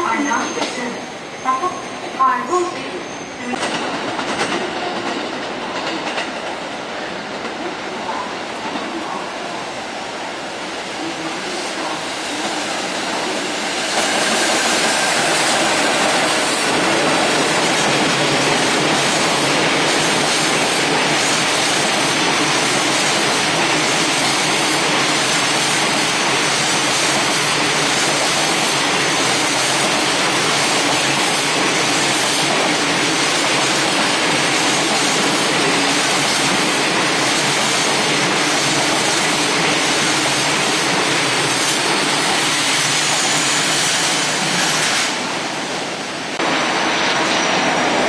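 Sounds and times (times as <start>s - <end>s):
freight train passing: 0.0s - 48.0s
steel wheels rushing on rails: 3.0s - 48.0s.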